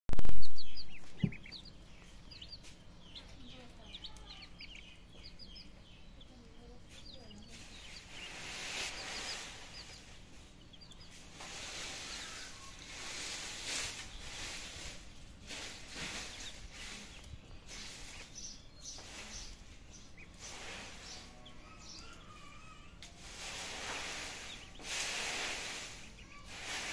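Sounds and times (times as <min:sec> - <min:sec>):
background noise: 0:00.1 - 0:26.9
ducklings peeping: 0:00.2 - 0:26.9.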